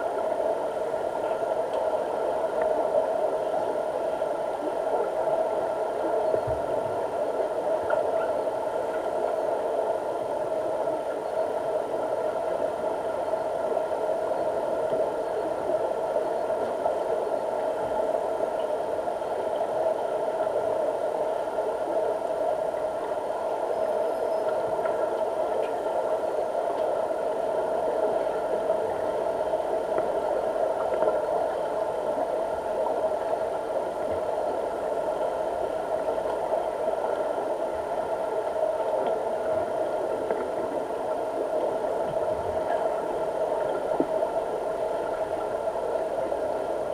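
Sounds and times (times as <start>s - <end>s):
underwater mechanical hum: 0.0s - 46.9s.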